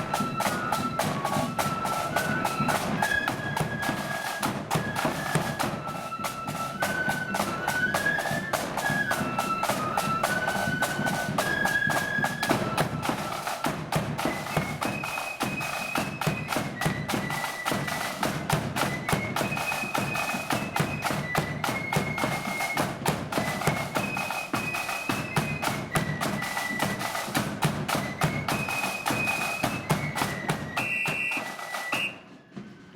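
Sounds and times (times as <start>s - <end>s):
snare and bass drumming: 0.0s - 32.8s
marching flute band: 0.0s - 32.9s.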